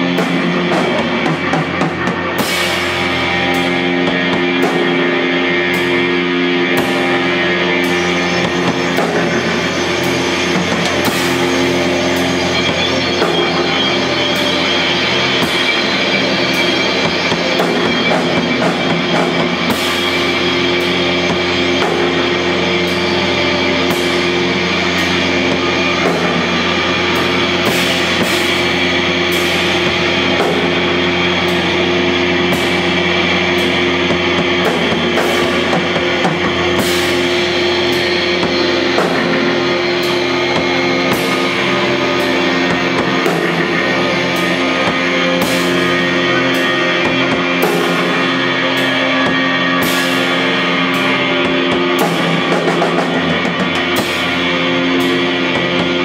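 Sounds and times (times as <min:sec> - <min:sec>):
drum and cymbal hits: 0:00.0 - 0:56.0
loud electronic drone: 0:00.0 - 0:56.0.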